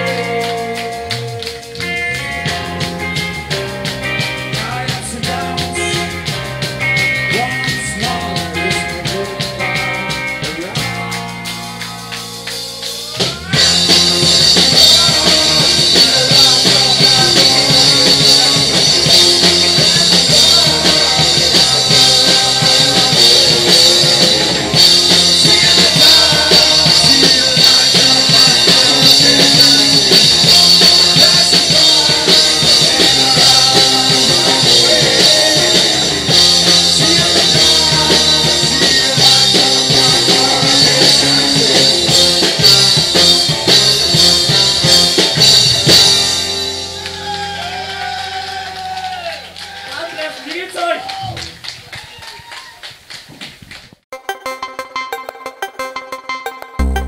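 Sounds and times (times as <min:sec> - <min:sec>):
rock band playing loud: 0:00.0 - 0:51.7, 0:54.1 - 0:57.0.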